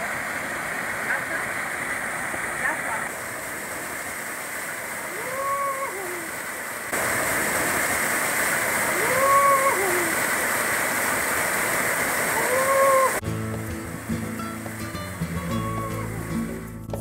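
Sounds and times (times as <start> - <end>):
waterfall splashing into pool: 0.0 - 17.0.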